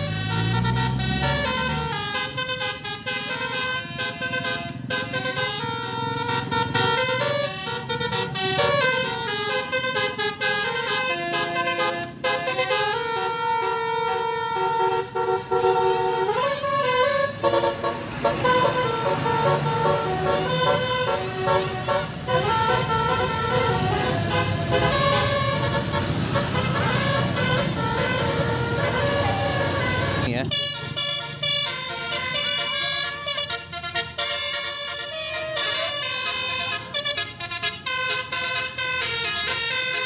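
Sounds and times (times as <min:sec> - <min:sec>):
low engine rumble: 0:00.0 - 0:39.8
multi-tone musical horn: 0:00.0 - 0:40.0.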